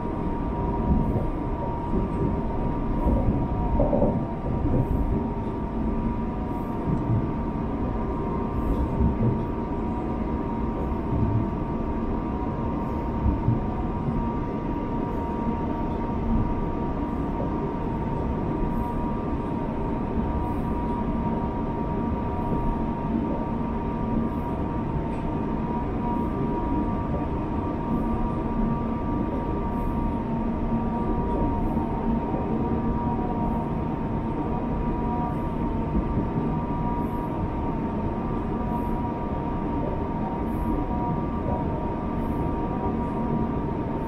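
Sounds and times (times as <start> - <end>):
electric train rumble: 0.0 - 44.0.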